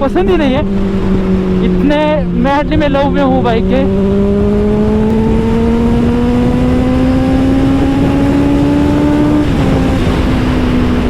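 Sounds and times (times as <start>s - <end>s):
motorcycle engine accelerating: 0.0s - 11.0s
wind and road noise: 0.0s - 11.0s.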